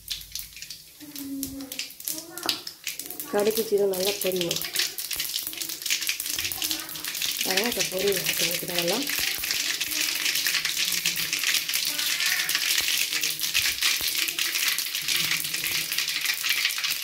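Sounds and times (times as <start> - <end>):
seeds spluttering in hot oil: 0.0 - 17.0.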